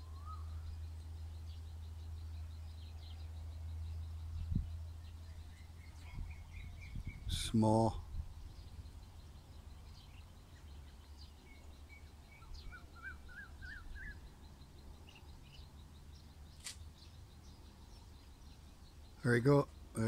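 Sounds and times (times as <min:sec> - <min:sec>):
outdoor background noise: 0:00.0 - 0:20.0
small birds chirping: 0:00.0 - 0:20.0.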